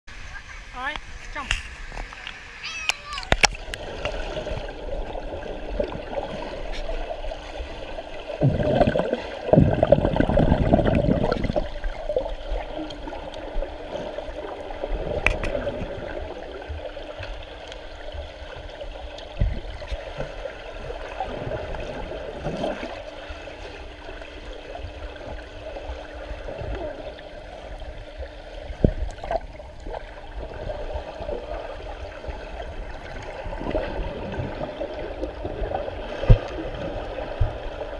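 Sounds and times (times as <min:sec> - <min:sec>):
rush of bubbles and churned water: 0:00.1 - 0:37.9
underwater bubbling and gurgling: 0:00.1 - 0:37.9.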